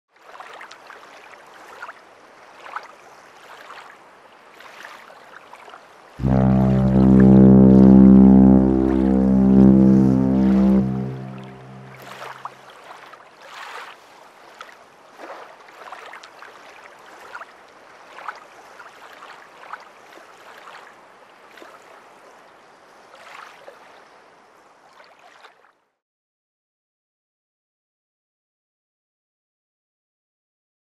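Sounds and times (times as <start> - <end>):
water lapping and splashing: 0.1 - 9.6, 10.3 - 25.8.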